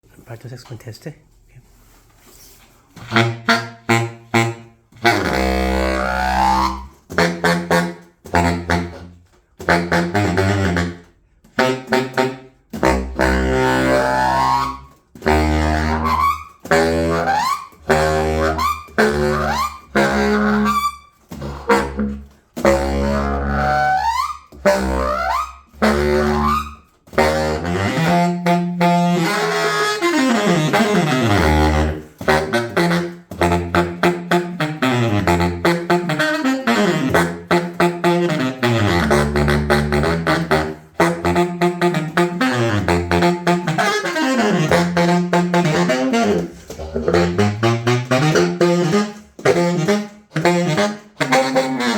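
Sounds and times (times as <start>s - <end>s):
baritone saxophone playing: 2.9s - 51.9s.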